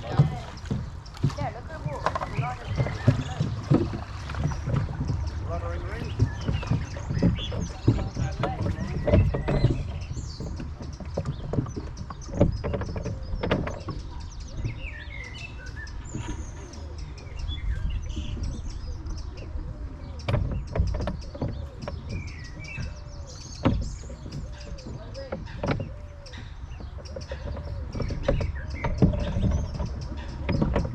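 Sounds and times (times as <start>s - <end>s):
rowboat and oars knocking: 0.0s - 30.9s
small birds chirping: 0.0s - 30.9s
wind rumble on microphone: 0.0s - 30.9s.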